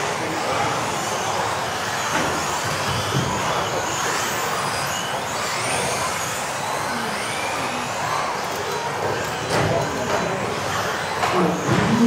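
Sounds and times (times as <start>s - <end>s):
motor whines: 0.0s - 12.0s
rc cars motor and tyre noise: 0.0s - 12.0s.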